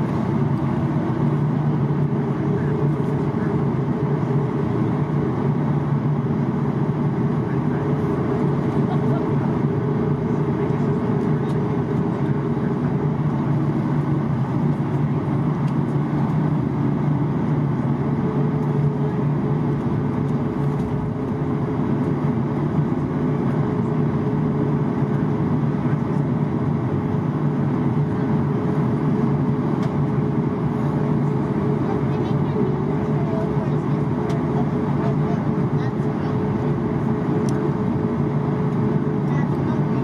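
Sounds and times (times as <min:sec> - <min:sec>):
aircraft cabin engine hum: 0:00.0 - 0:40.0.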